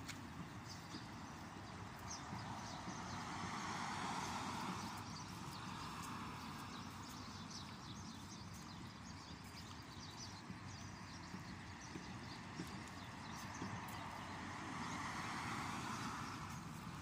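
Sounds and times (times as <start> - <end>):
passing vehicle: 0.0 - 9.2, 11.8 - 17.0
low traffic rumble: 0.0 - 17.0
small birds chirping: 0.0 - 17.0.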